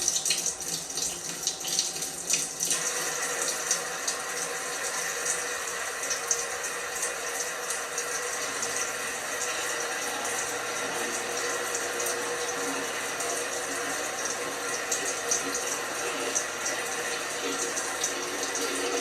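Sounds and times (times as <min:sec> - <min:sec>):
washing machine water rushing: 0:00.0 - 0:19.0.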